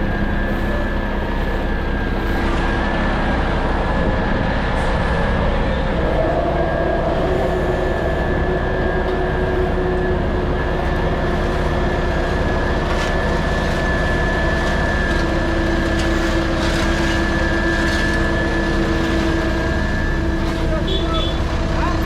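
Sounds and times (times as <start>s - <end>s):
heavy diesel engines running: 0.0s - 22.0s
high whine: 0.0s - 22.0s.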